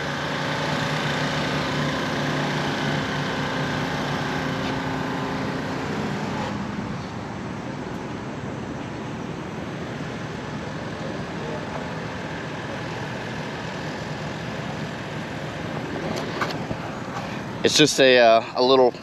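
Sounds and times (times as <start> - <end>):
motor engine running: 0.0 - 18.7
constant hiss: 0.3 - 19.0.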